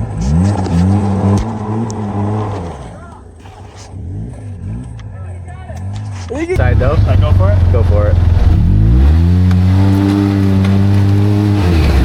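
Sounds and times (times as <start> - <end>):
utv engine revving: 0.0 - 12.0.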